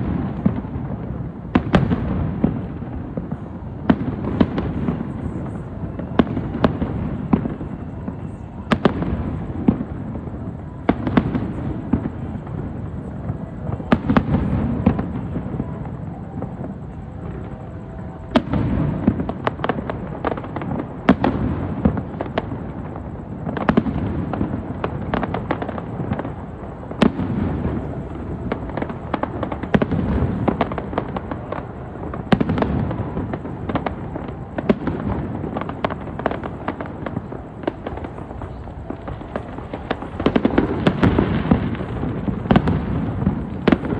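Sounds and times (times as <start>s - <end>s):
fireworks cracks and bangs: 0.0s - 43.9s.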